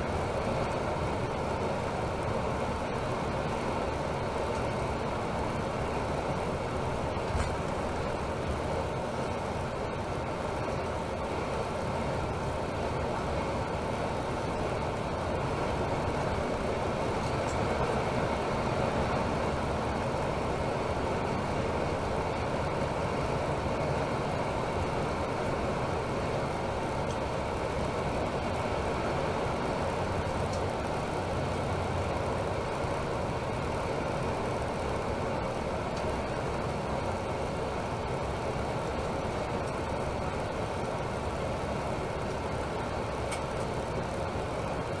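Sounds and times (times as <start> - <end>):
coach engine drone: 0.0 - 45.0
road noise: 0.0 - 45.0.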